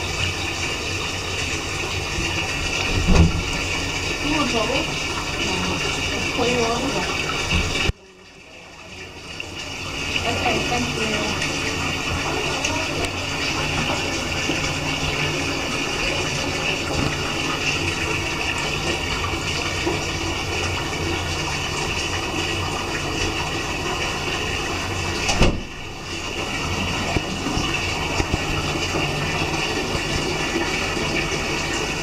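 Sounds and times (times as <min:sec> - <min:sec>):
faucet water running into sink: 0:00.0 - 0:32.0.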